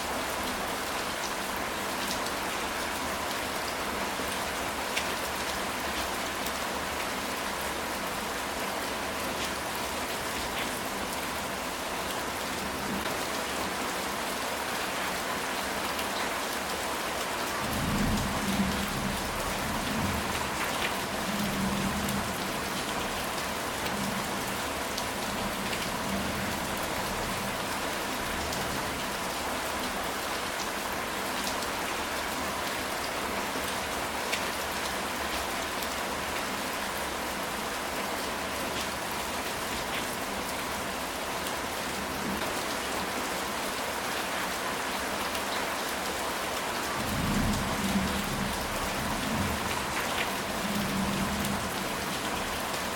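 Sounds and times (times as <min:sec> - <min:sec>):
rain on a tile roof: 0:00.0 - 0:52.9.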